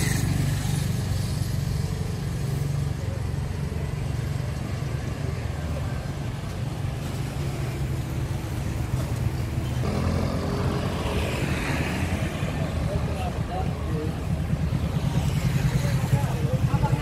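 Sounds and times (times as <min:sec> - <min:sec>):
passing cars and motorbikes: 0:00.0 - 0:17.0.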